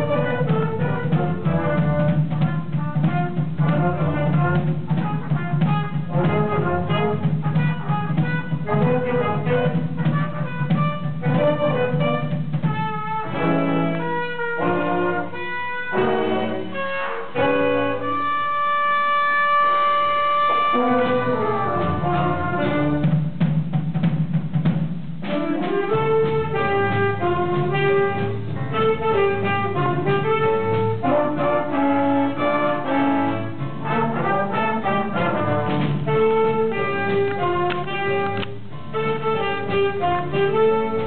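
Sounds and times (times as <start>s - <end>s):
trumpets: 0.0s - 23.8s, 25.2s - 41.0s
jazz band playing: 0.0s - 41.0s.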